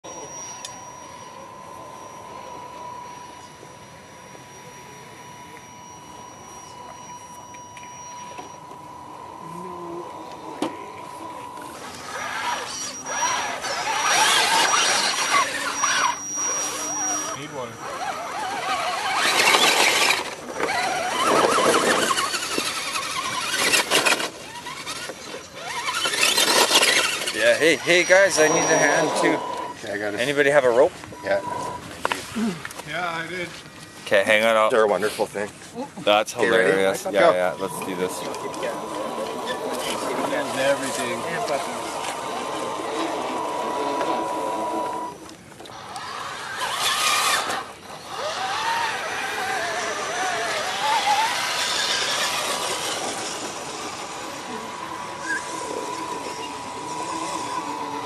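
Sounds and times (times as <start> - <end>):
electric motors whining: 0.0 - 58.0.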